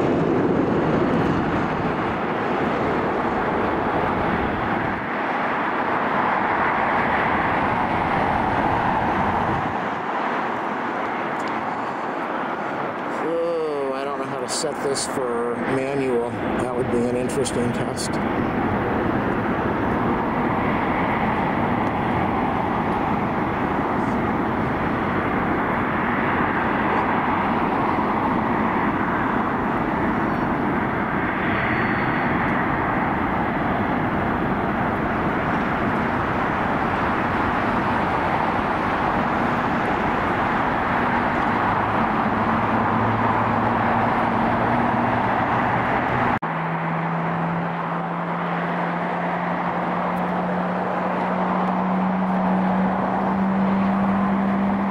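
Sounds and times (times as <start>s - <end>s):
jet engine roar: 0.0s - 54.9s.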